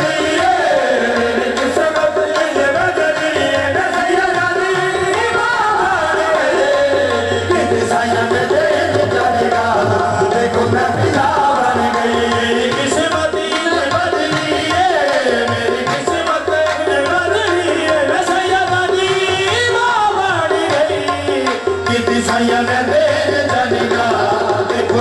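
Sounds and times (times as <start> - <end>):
harmonium: 0.0 - 25.0
men singing: 0.0 - 25.0
tabla drums: 0.0 - 25.0.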